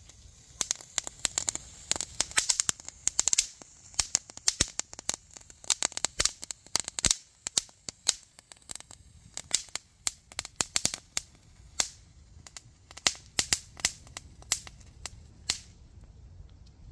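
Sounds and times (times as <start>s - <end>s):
firework crackling: 0.0s - 16.0s.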